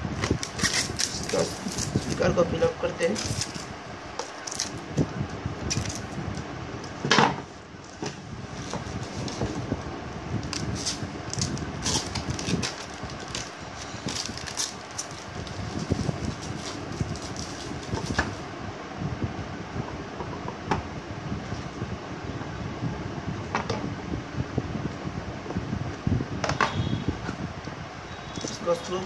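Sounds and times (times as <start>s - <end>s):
steady fan-like hum: 0.0s - 29.0s.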